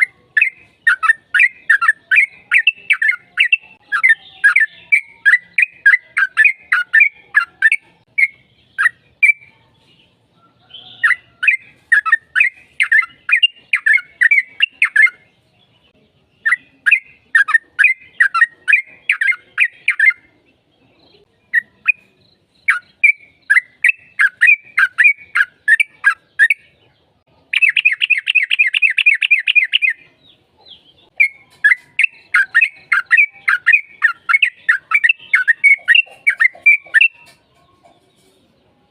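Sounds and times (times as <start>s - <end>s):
bird singing whistled notes: 0.0s - 9.5s, 10.6s - 15.3s, 16.4s - 20.3s, 21.5s - 26.8s, 27.6s - 30.4s, 31.2s - 37.3s
fast dense bird trill: 0.0s - 9.5s, 10.4s - 15.3s, 16.4s - 20.3s, 21.5s - 26.8s, 27.5s - 37.4s.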